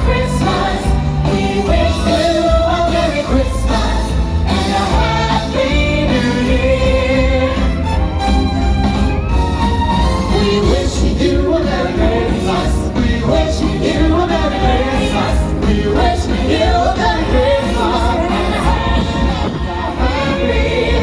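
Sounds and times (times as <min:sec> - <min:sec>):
singing over a full band: 0:00.0 - 0:21.0.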